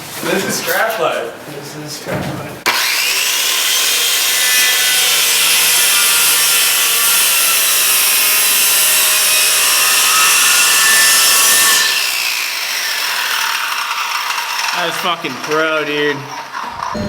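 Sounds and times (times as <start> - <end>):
power saw cutting wood: 2.7 - 17.0.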